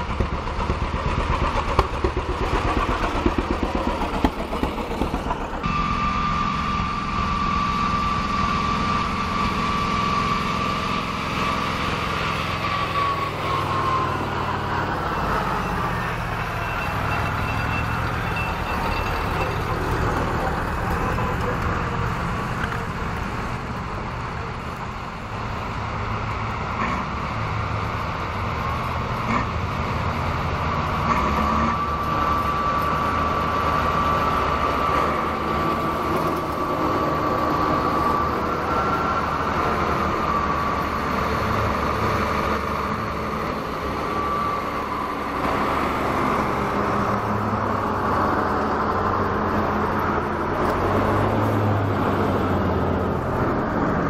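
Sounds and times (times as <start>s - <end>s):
high-pitched whine: 0.0s - 25.6s, 29.3s - 54.0s
diesel tractors driving past: 0.0s - 54.0s.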